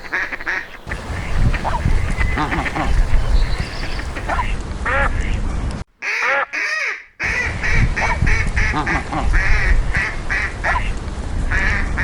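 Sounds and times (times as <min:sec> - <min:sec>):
ducks quacking: 0:00.0 - 0:05.3, 0:06.0 - 0:12.0.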